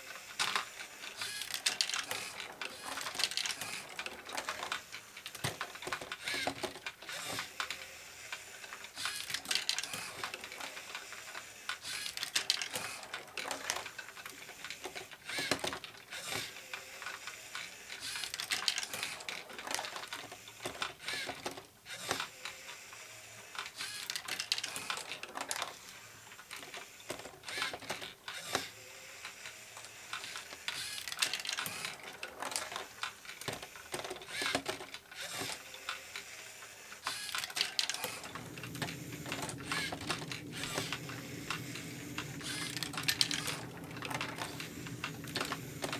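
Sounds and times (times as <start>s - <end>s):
plastic mechanism clattering: 0.1s - 45.9s.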